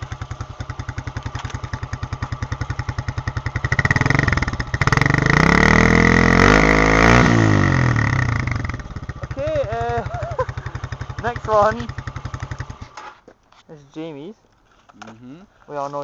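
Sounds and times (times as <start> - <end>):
trail bike engine idling and revving: 0.0 - 13.2.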